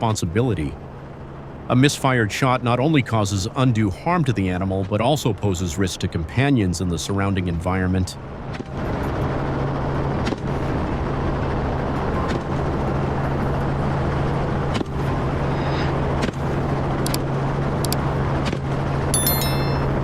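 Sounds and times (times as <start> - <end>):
helicopter engine drone: 0.0 - 20.0.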